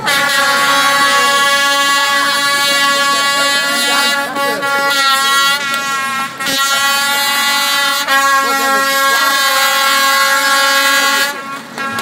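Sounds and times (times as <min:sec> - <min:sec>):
air horn blasts: 0:00.0 - 0:12.0.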